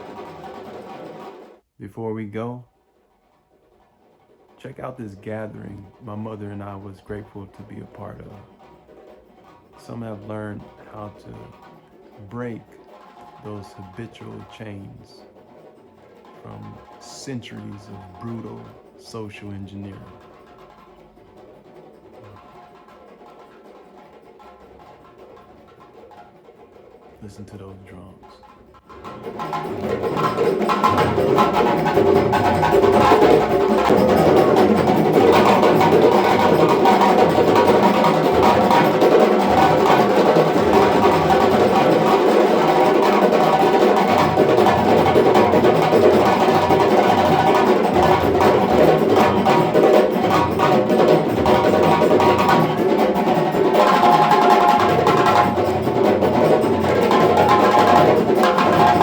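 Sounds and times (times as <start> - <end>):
hand drums playing fast rhythm: 0.0 - 2.6, 4.3 - 59.0.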